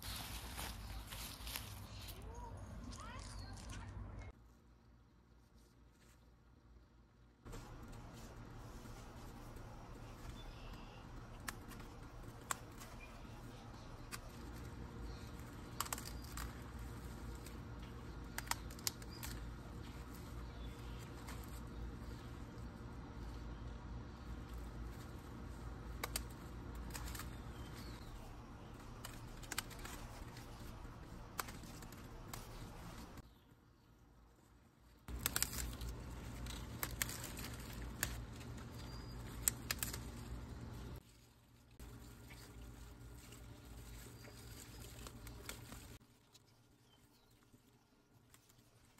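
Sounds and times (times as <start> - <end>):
leaves rustling: 0.0 - 3.8, 7.5 - 33.2, 34.4 - 48.9.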